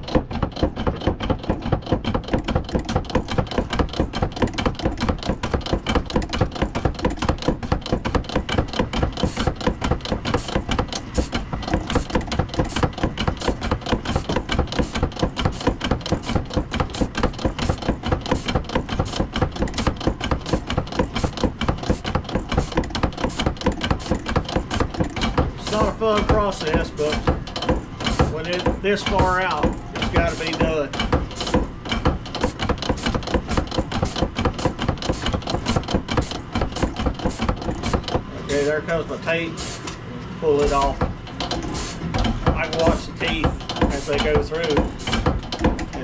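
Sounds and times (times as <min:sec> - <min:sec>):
saw tooth setter clacking: 0:00.0 - 0:40.0, 0:40.6 - 0:46.0.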